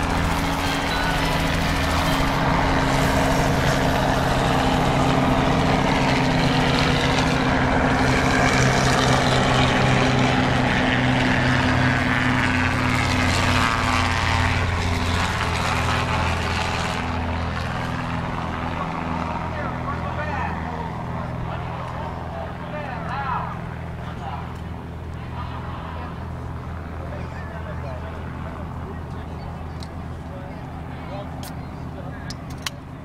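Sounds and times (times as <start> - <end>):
helicopter rotor and engine drone: 0.0 - 33.0.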